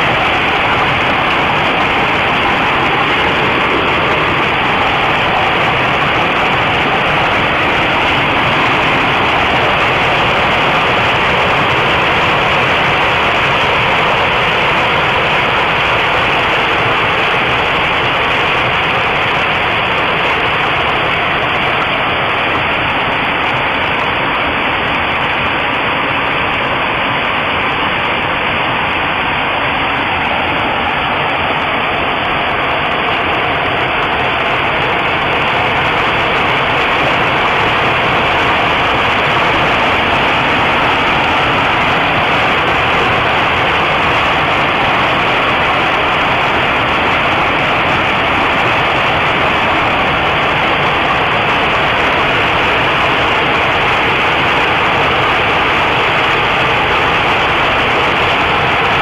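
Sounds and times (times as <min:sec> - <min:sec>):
hail and rain pelting roofs: 0:00.0 - 0:59.0.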